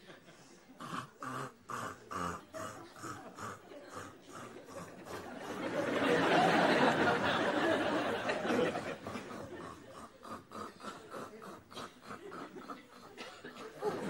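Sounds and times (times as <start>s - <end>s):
studio audience laughing: 1.7s - 14.0s.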